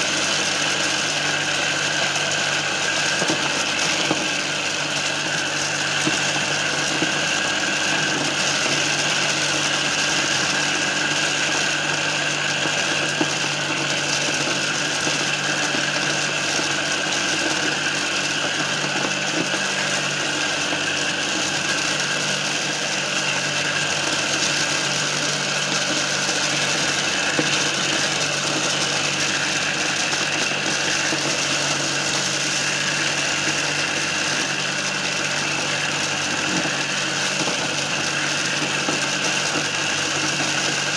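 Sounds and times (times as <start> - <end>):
electric motor hum: 0.0 - 40.9.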